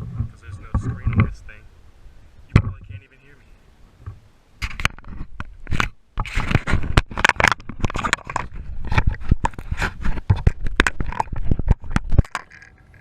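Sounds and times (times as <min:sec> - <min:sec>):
scraping against microphone: 0:00.0 - 0:01.6, 0:03.9 - 0:13.0.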